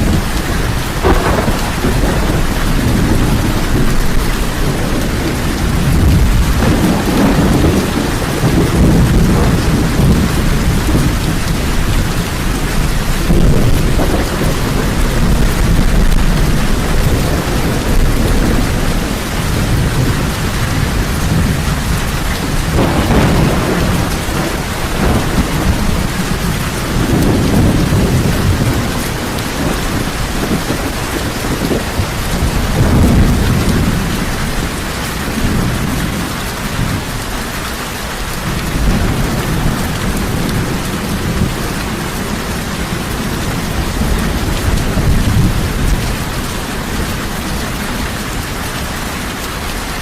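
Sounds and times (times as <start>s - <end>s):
heavy rain falling: 0.0s - 50.0s
thunder rumbling: 0.0s - 50.0s.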